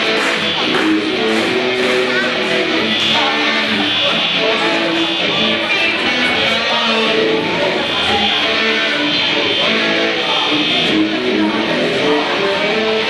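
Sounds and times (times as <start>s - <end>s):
electric guitar lead line: 0.0s - 13.0s.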